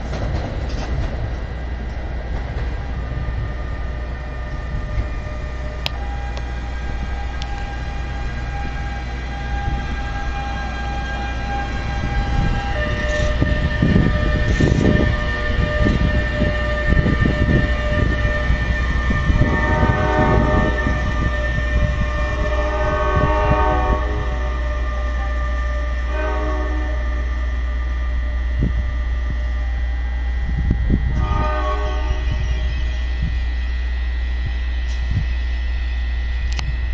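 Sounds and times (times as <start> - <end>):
train rumbling: 0.0 - 36.9
whining tones: 2.8 - 36.9.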